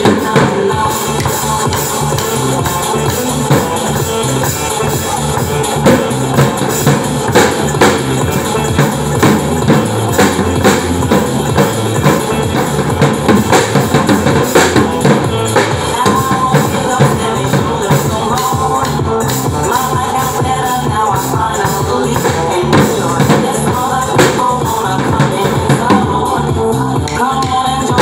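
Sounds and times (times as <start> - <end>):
drum kit hits: 0.0 - 26.4
electronic dance music: 0.0 - 28.0.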